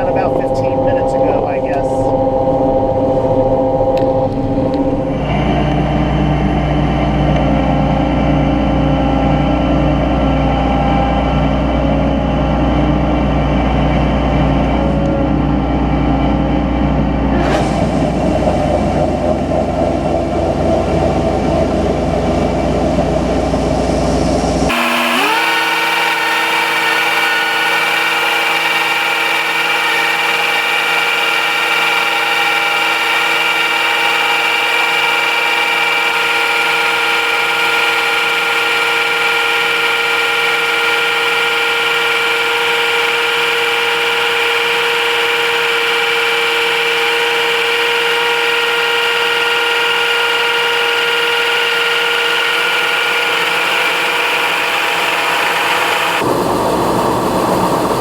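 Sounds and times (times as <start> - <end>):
drone rotors whining: 0.0 - 58.0.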